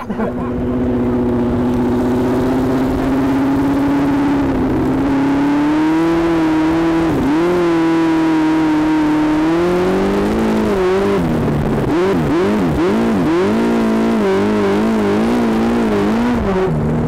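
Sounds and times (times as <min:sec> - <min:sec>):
racing engine at high revs: 0:00.0 - 0:17.0.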